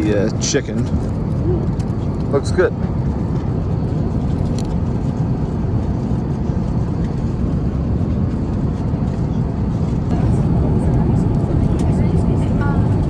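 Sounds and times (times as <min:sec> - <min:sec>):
airliner cabin noise rushing: 0:00.0 - 0:13.0.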